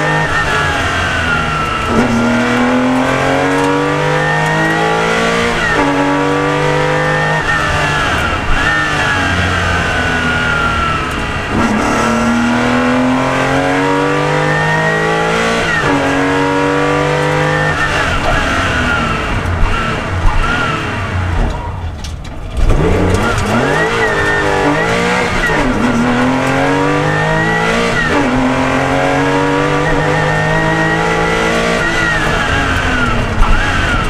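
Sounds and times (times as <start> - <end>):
racing car engine at full throttle: 0.0 - 34.0.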